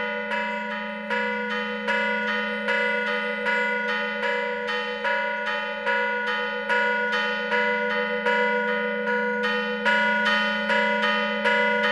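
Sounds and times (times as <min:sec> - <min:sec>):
bells ringing: 0:00.0 - 0:11.9.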